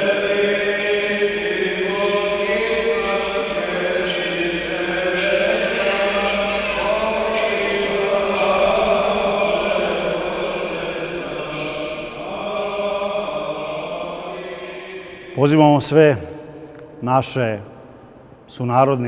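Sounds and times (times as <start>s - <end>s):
voices chanting long held notes: 0.0s - 16.8s.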